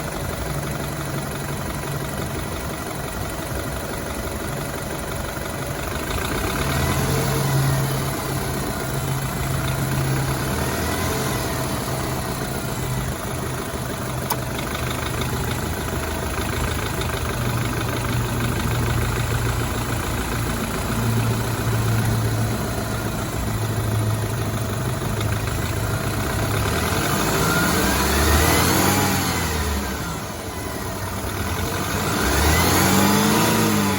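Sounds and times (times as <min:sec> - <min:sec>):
car engine idling and revving: 0:00.0 - 0:33.9
engine knocking: 0:00.0 - 0:33.9
engine whine: 0:00.0 - 0:33.9.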